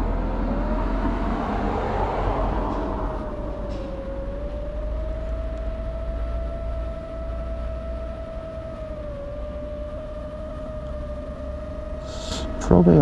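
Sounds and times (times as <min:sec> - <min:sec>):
low rumble: 0:00.0 - 0:13.0
quadcopter humming in flight: 0:00.0 - 0:13.0.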